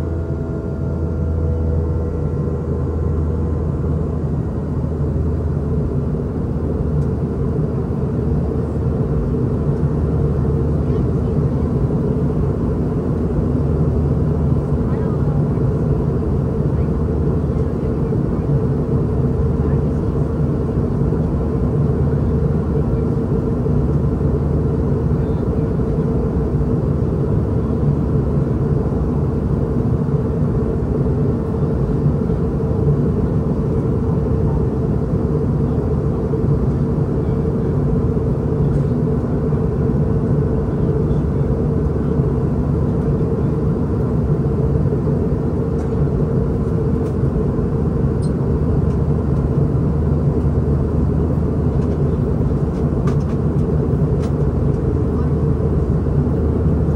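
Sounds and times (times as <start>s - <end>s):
jet engines humming: 0.0s - 56.9s.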